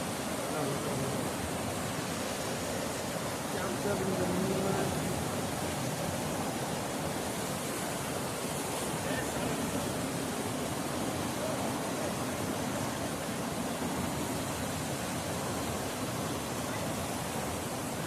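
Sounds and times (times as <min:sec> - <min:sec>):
fast-flowing stream rushing: 0:00.0 - 0:18.0.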